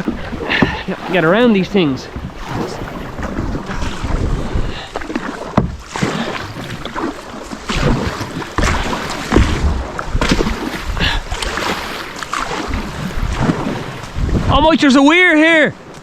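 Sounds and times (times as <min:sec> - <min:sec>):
wind buffeting microphone: 0:00.0 - 0:07.0, 0:07.7 - 0:15.0
paddle strokes splashing: 0:00.0 - 0:16.0
running water: 0:00.0 - 0:16.0.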